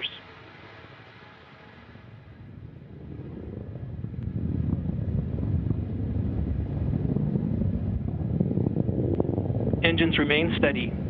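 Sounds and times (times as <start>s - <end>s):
rocket engine rumble with crackles: 0.0s - 11.0s.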